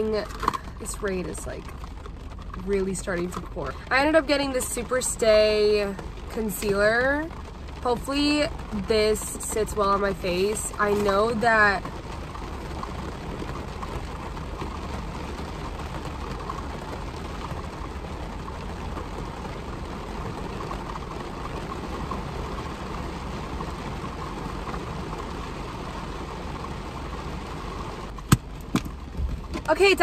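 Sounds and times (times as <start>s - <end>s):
heavy rain on a car: 0.0s - 30.0s.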